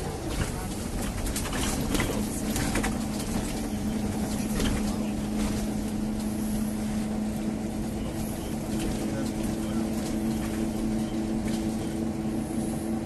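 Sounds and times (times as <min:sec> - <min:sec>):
bus diesel engine hum: 0:00.0 - 0:13.0
road rumble: 0:00.0 - 0:13.0.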